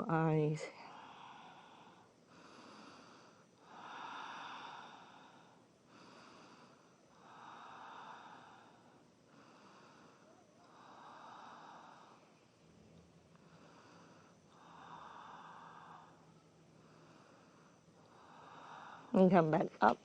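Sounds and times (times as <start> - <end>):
slow deep breathing: 0.7 - 19.2.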